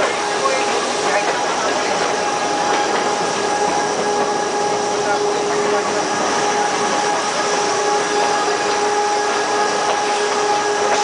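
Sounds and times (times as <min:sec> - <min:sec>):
tram running noise: 0:00.0 - 0:11.0.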